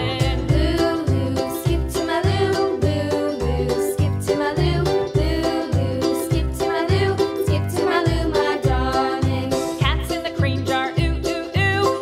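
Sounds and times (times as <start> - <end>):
music with bass beat and melody: 0.0 - 12.0.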